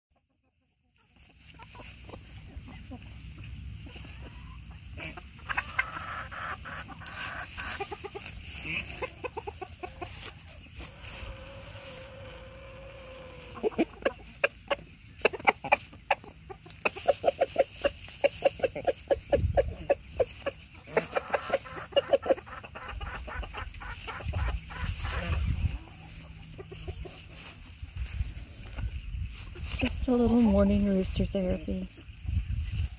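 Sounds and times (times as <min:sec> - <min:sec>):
chickens clucking: 0:00.1 - 0:32.9.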